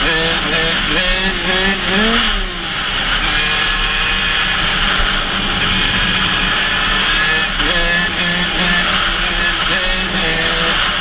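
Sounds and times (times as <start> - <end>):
two-stroke engine revving high: 0.0 - 11.0.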